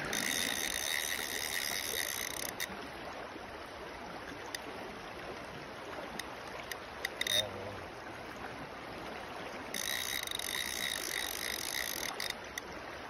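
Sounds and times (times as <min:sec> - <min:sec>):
river rushing over shallows: 0:00.0 - 0:13.0.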